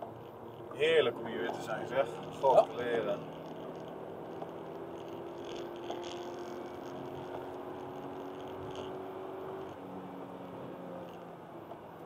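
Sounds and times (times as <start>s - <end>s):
car engine pulling steadily: 0.0s - 12.0s
tyre noise on wet road: 0.0s - 12.0s.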